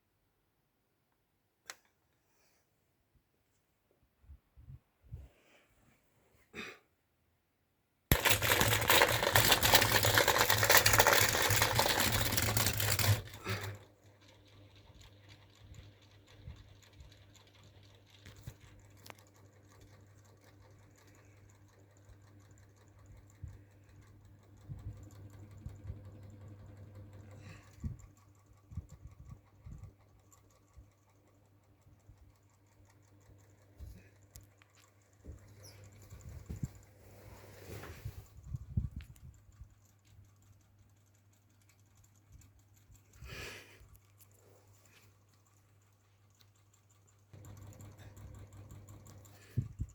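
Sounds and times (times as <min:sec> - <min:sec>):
fan motor humming: 0:08.1 - 0:49.9
fan motor rattling: 0:08.1 - 0:49.9.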